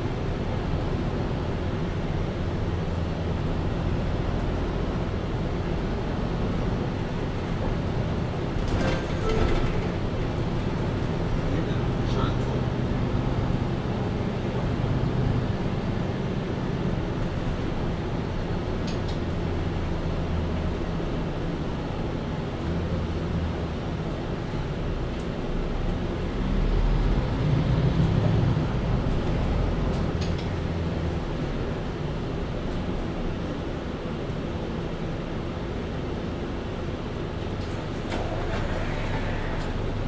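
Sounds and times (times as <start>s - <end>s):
bus diesel engine droning: 0.0s - 40.0s.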